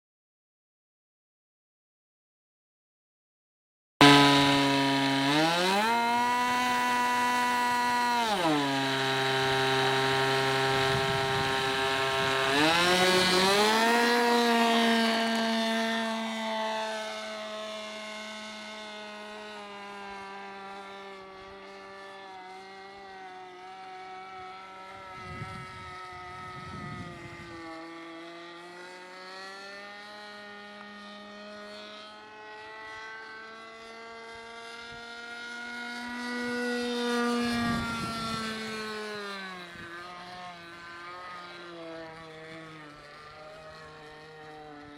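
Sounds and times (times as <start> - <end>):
model airplane engine revving: 4.0 - 44.9.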